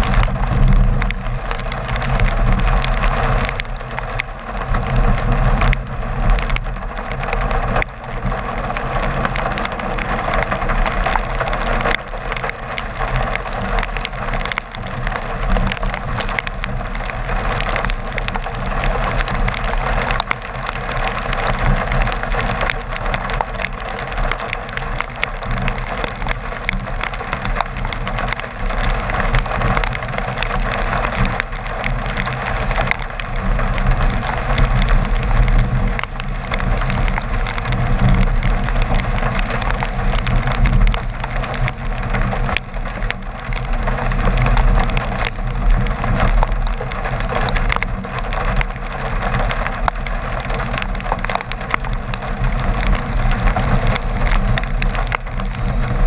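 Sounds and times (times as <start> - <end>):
rain hitting car windshield: 0.0 - 56.0
road and engine rumble: 0.0 - 56.0.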